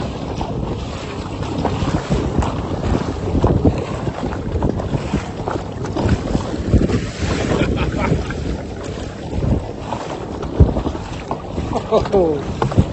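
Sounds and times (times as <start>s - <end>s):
water moving around a kayak: 0.0s - 12.9s
wind blowing across microphone: 0.0s - 12.9s.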